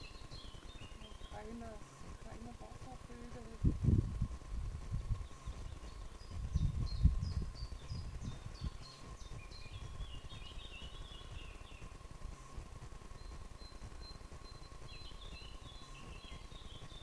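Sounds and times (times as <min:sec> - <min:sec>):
faint steady hum: 0:00.0 - 0:17.0
rapid twittering warble: 0:00.0 - 0:17.0
songbird singing: 0:00.0 - 0:17.0.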